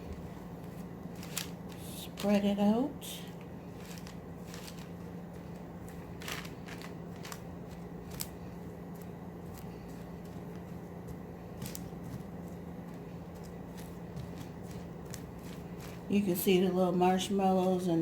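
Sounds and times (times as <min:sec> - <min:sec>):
popcorn rustling and crackling: 0:00.0 - 0:18.0
steady low hum: 0:00.0 - 0:18.0.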